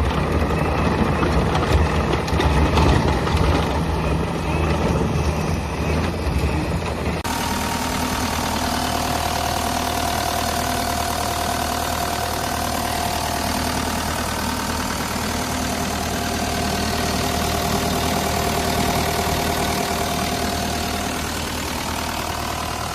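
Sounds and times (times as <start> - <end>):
diesel engine idling: 0.0 - 22.9
steady high whine: 4.1 - 22.9.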